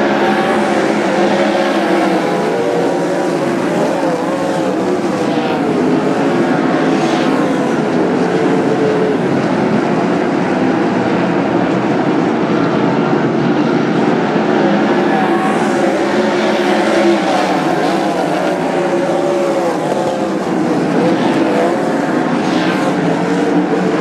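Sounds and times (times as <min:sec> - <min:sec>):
race car engines at full throttle: 0:00.0 - 0:24.0.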